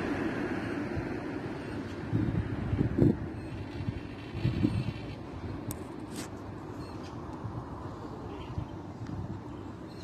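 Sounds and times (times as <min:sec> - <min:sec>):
wind buffeting microphone: 0:00.0 - 0:06.6, 0:07.3 - 0:10.0
low outdoor rumble: 0:00.0 - 0:10.0.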